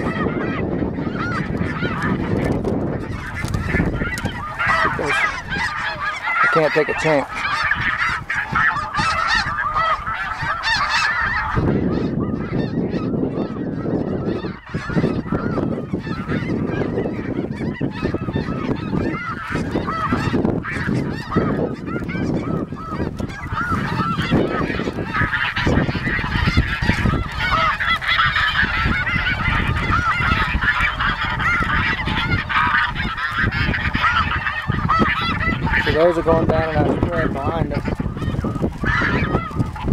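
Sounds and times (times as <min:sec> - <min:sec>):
geese honking: 0:00.0 - 0:39.9
wind buffeting microphone: 0:00.0 - 0:39.9.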